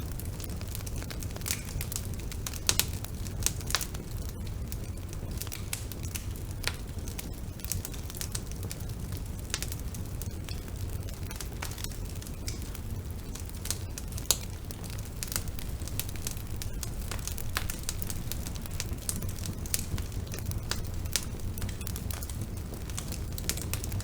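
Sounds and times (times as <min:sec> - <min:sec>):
bonfire flames rumbling: 0:00.0 - 0:24.0
fire crackling and popping: 0:00.0 - 0:24.0.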